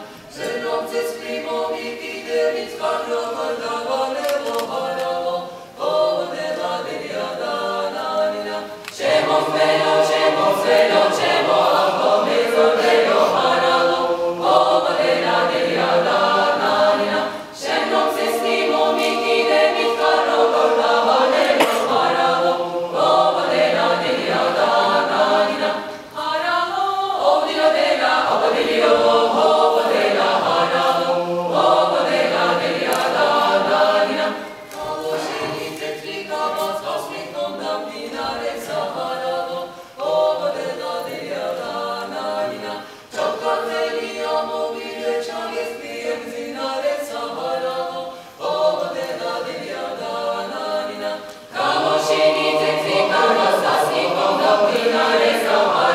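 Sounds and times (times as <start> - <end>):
mixed choir singing a cappella: 0.0 - 55.9.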